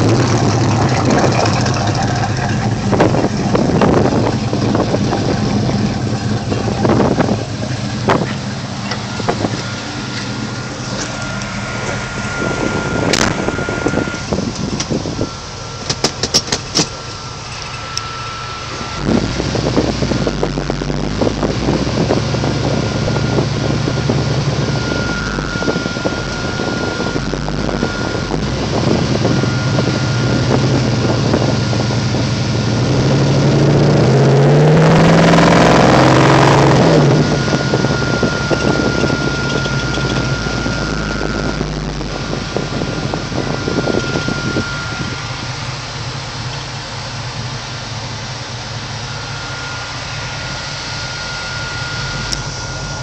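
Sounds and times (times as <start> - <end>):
car engine exhaust rumble: 0.0 - 53.0.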